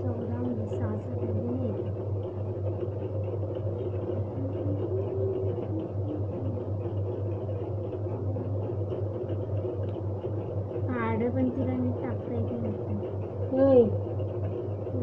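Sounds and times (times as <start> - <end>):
faint wavering tones: 0.0 - 15.0
steady low hum: 0.0 - 15.0.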